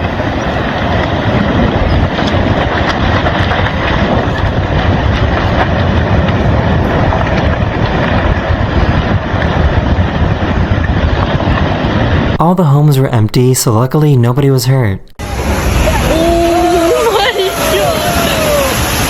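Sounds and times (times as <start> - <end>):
landslide rushing and rumbling: 0.0 - 13.9, 15.2 - 19.0.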